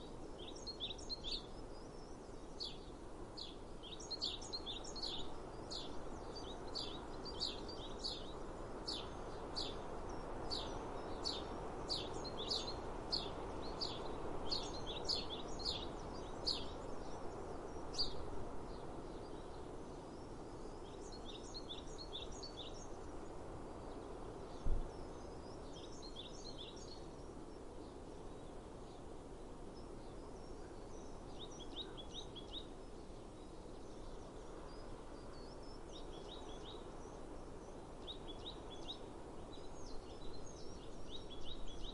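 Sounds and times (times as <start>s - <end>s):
small songbird chirping: 0.0s - 41.9s.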